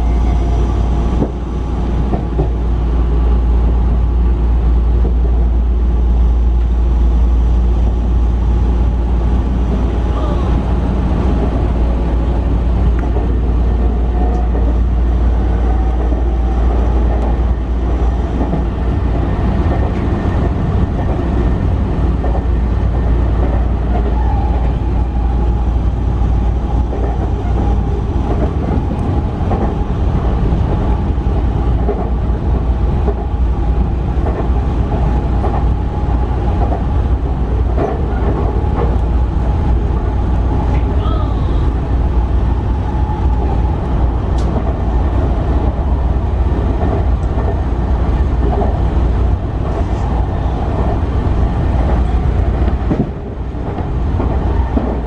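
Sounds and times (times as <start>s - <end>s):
train wheels on rail: 0.0s - 55.0s.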